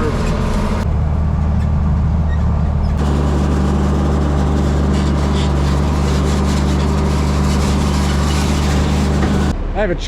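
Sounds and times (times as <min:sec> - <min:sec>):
tractor diesel engine drone: 0:00.0 - 0:10.0.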